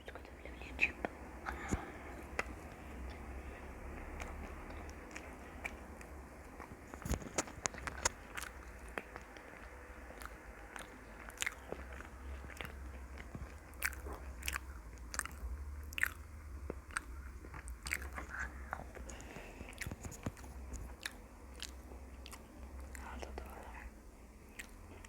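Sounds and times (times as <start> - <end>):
faint low hum: 0.0 - 25.0
person chewing crunchy food: 1.5 - 23.8, 24.5 - 25.0.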